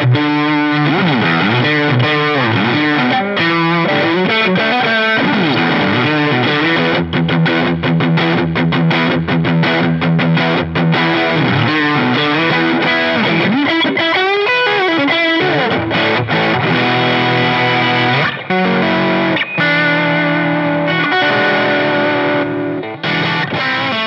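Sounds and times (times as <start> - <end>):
overdriven electric guitar: 0.0 - 24.0.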